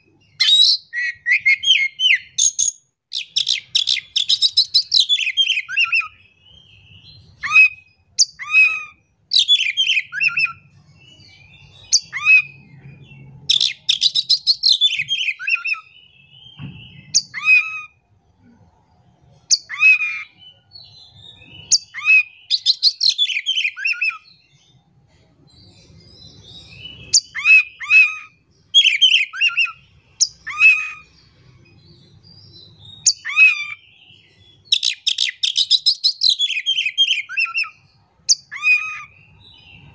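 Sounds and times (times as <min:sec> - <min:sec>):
bird singing chirps and whistles: 0:00.0 - 0:18.0, 0:19.5 - 0:24.4, 0:25.9 - 0:31.1, 0:32.0 - 0:39.9.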